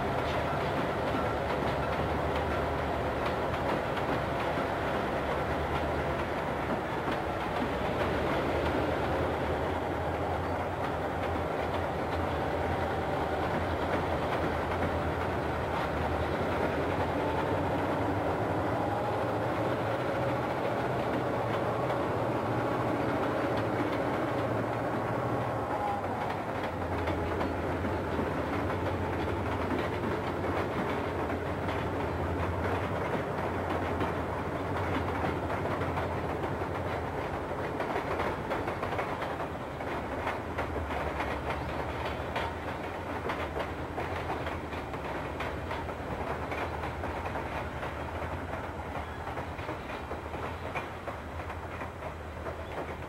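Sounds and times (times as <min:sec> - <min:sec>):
freight cars rumbling over trestle: 0:00.0 - 0:53.0
wheel clicks at rail joints: 0:00.0 - 0:53.0.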